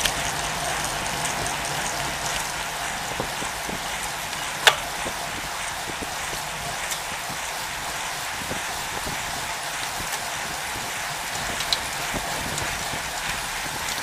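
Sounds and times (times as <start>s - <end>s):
bike tyres hissing on road: 0.0s - 14.0s.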